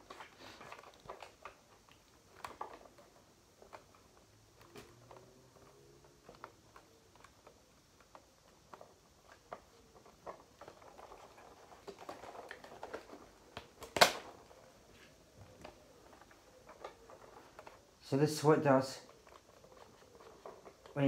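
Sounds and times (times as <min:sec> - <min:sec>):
packaging rustling: 0:00.0 - 0:21.0.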